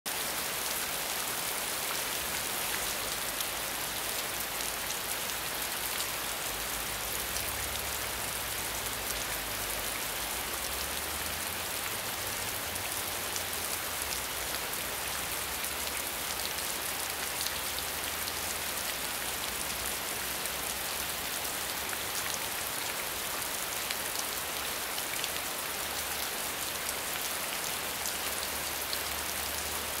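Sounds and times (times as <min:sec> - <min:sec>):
heavy rain on leaves: 0:00.1 - 0:30.0.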